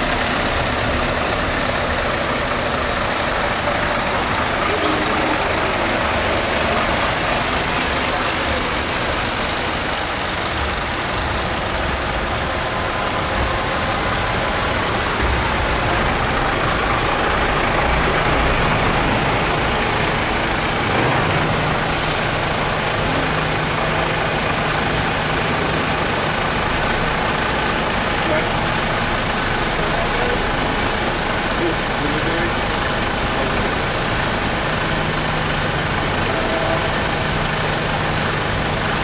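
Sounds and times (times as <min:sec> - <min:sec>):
low engine drone: 0:00.0 - 0:39.0
trucks driving past: 0:00.0 - 0:39.0.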